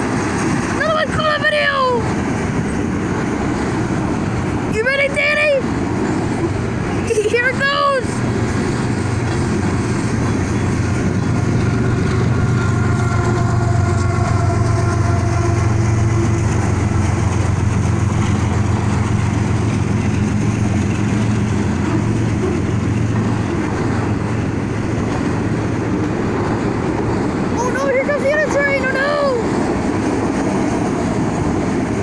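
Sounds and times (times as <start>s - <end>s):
steel wheels rumbling on rail: 0.0s - 32.0s.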